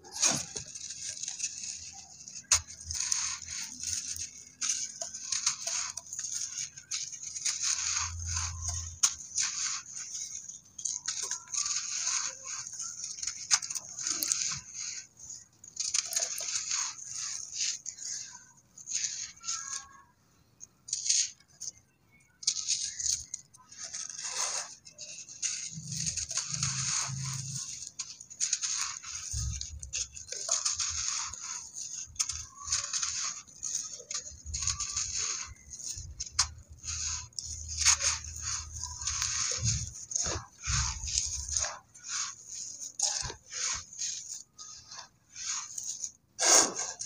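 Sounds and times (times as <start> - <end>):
gritty crunching and rustling: 0.0 - 47.0.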